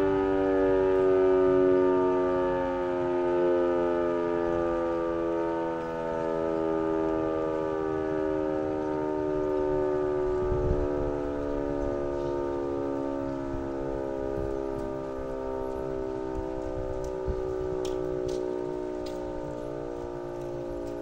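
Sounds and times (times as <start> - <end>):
siren sounding multi-tone chord: 0.0 - 21.0.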